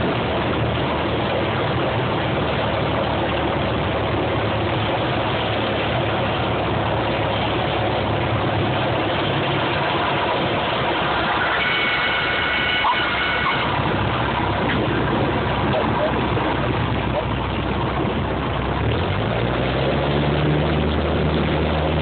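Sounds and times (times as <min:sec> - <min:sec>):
light aircraft engine and propeller: 0:00.0 - 0:22.0.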